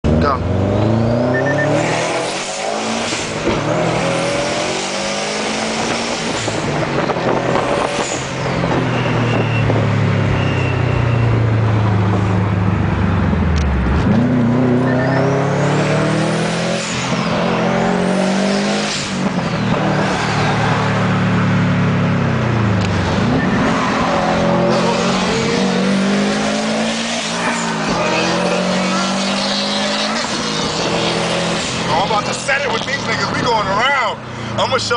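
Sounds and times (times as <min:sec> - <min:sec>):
car engine accelerating through gears: 0:00.1 - 0:33.2.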